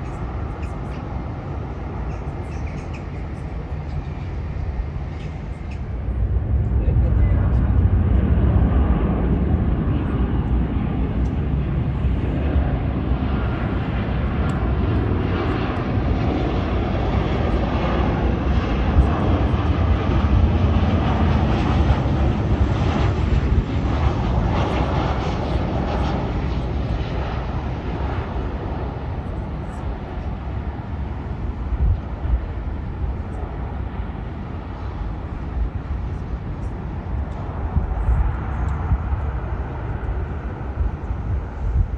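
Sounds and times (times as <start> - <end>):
jet airliner engines passing: 0.0 - 41.9.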